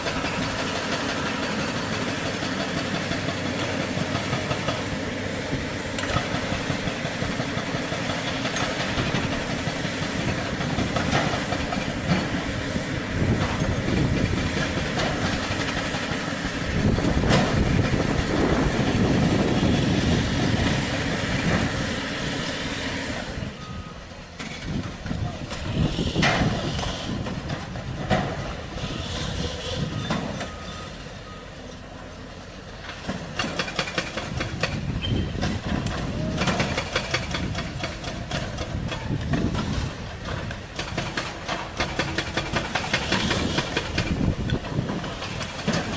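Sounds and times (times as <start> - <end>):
excavator engine running: 0.0 - 45.9.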